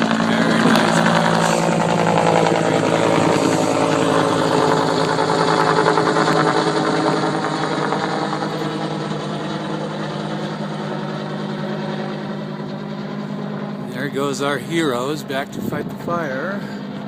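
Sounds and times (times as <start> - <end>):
helicopter flying away: 0.0 - 17.0.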